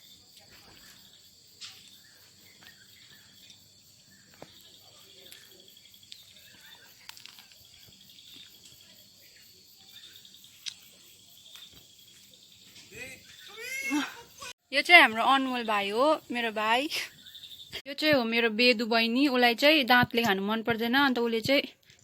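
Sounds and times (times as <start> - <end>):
insects chirring: 0.0 - 17.8.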